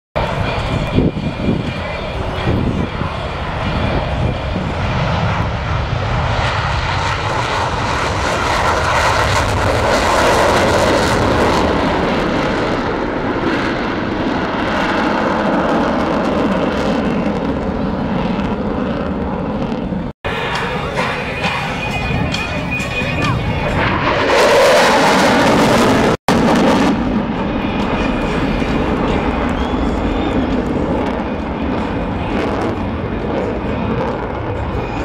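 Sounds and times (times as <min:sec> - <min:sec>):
fighter jet flyby: 0:00.2 - 0:35.0.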